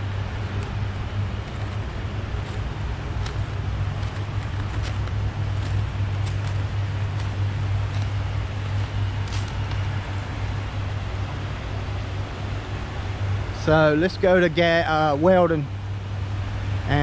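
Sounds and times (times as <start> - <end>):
traffic rumble on bridge: 0.0 - 17.0.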